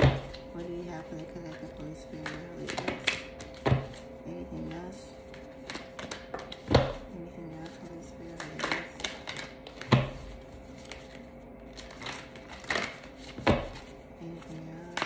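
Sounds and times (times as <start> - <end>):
cards shuffling: 1.4 - 15.0.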